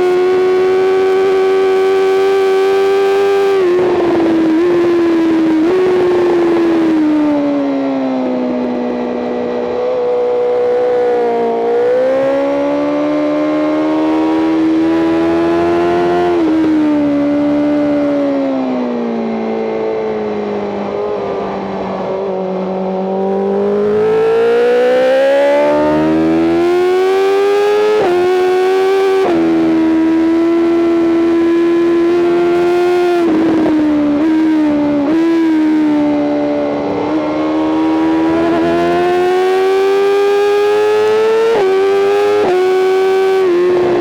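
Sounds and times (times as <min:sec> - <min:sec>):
motorcycle engine at speed: 0:00.0 - 0:44.0.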